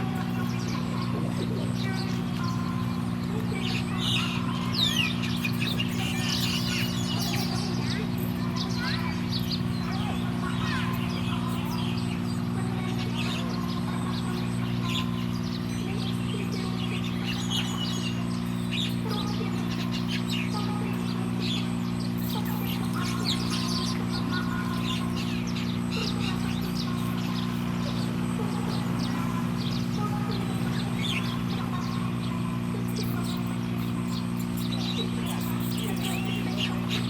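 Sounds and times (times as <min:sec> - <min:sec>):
small birds chirping: 0:00.0 - 0:37.0
steady low hum: 0:00.0 - 0:37.0.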